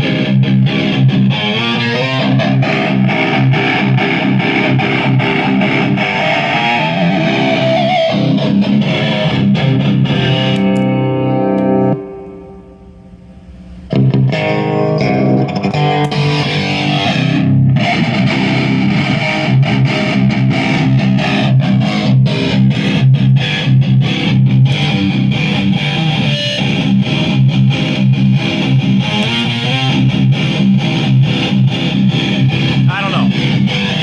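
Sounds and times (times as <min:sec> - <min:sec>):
overdriven electric guitar riffing: 0:00.0 - 0:34.0.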